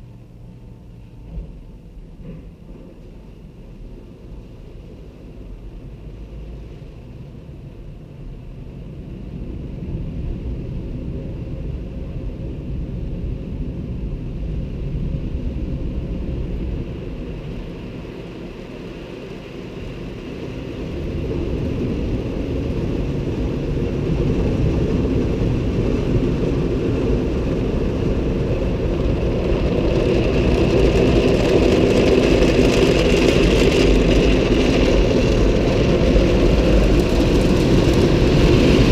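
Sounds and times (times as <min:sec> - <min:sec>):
car wash spraying and rumbling: 0:00.0 - 0:38.9.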